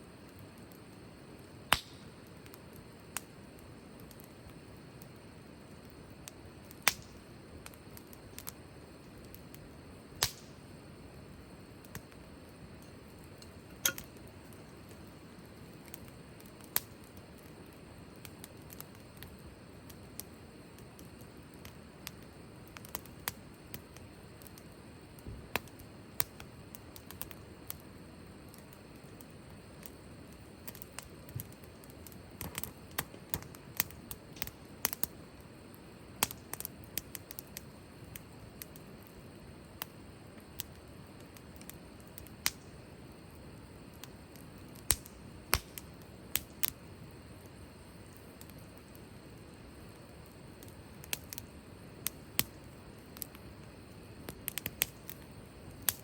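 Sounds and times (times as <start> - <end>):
campfire crackling and hissing: 0.0 - 56.0.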